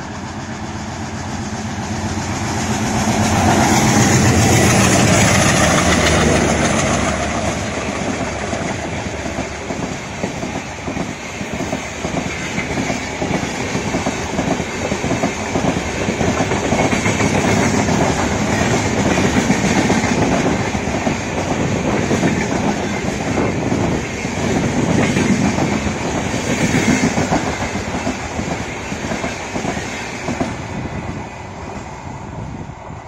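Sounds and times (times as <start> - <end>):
passing train roar: 0.0 - 33.0.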